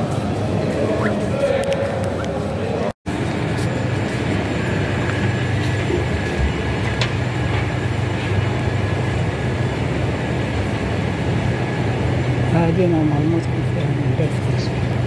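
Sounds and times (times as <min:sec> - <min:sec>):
escalator humming: 0:00.0 - 0:15.0.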